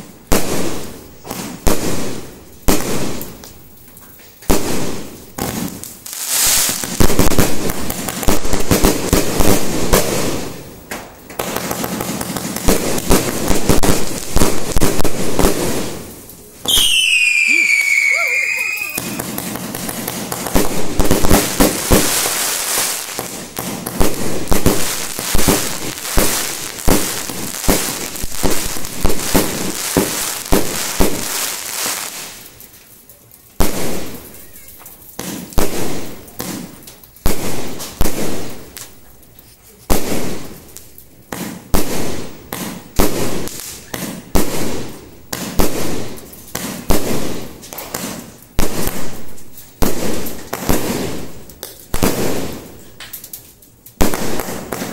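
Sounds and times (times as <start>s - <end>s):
loud firework bangs: 0.0s - 3.4s, 4.5s - 10.7s, 11.3s - 32.4s, 33.6s - 34.6s, 35.2s - 38.7s, 39.9s - 40.6s, 41.3s - 52.8s, 54.0s - 54.9s
fireworks crackling: 0.0s - 54.9s.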